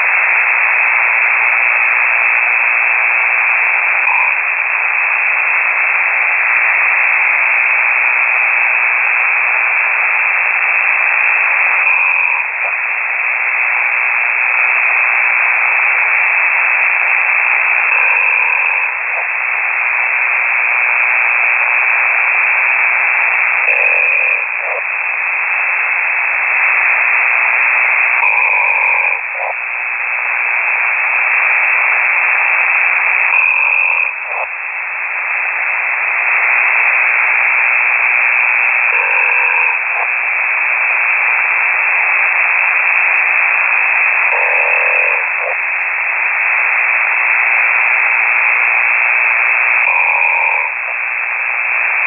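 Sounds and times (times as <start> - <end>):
raspy radio hiss: 0.0 - 52.0
snoring over radio: 0.0 - 52.0.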